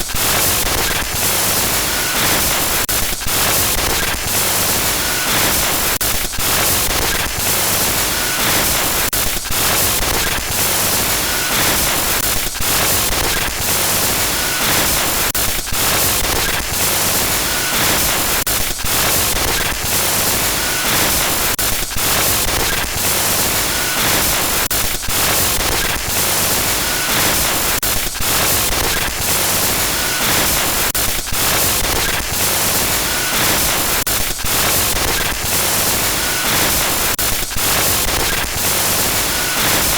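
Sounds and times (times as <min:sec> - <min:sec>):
harsh glitch static hiss: 0:00.1 - 0:39.9.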